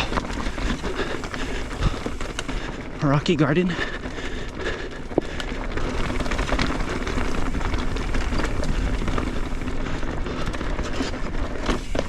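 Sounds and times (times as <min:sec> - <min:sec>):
mountain bike rattling over rocks: 0:00.0 - 0:12.0.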